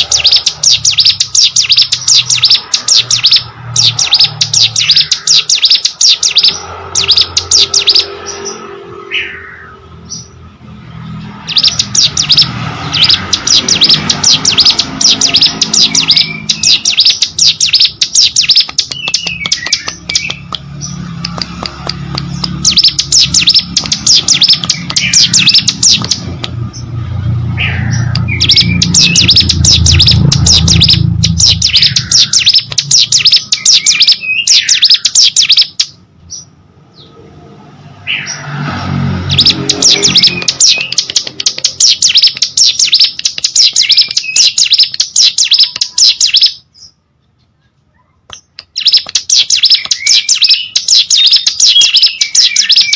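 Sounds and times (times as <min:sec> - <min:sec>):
bird scratchy chattering song: 0:00.0 - 0:36.5, 0:38.0 - 0:52.9.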